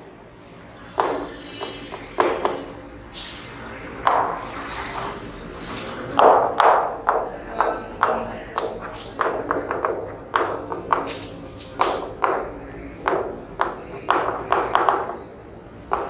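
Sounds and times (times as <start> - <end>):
chalk writing on blackboard: 0.9 - 16.0.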